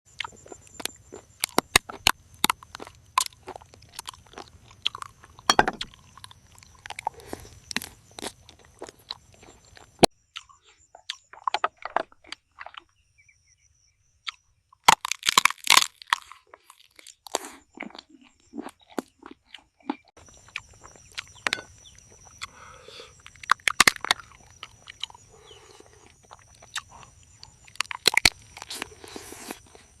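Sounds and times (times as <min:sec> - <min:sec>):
person chewing crunchy food: 0:00.1 - 0:13.0, 0:14.2 - 0:30.0.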